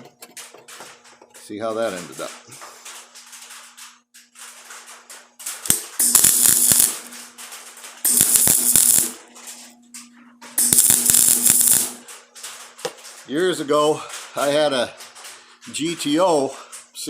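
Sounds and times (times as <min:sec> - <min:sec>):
crackling welding bursts: 0:00.4 - 0:16.5.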